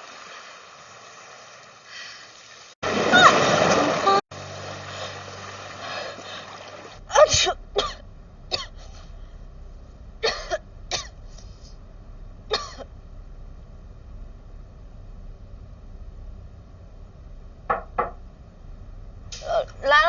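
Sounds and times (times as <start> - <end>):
low background hum: 2.9 - 20.0.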